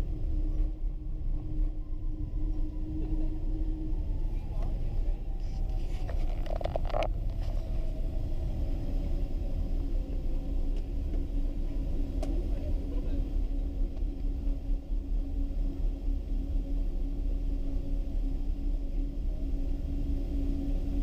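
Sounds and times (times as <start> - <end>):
airliner taxiing rumble: 0.0 - 21.0
steady hum: 0.0 - 21.0.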